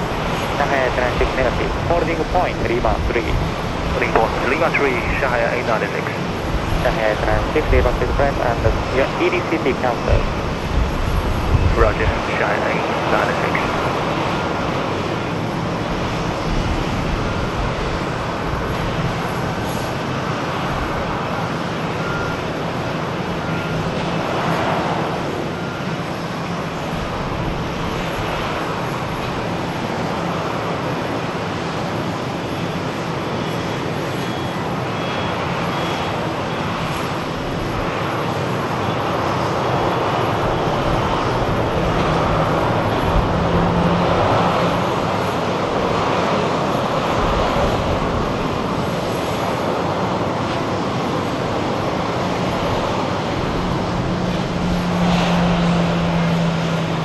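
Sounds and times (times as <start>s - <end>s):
jet engines running at low power: 0.0s - 57.0s.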